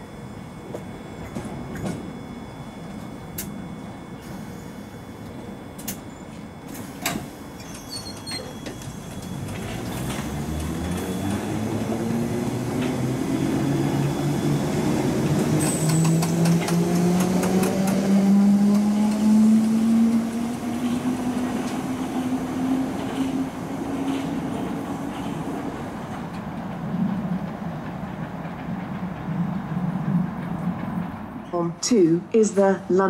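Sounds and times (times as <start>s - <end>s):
electric train motors whining: 0.0s - 27.5s.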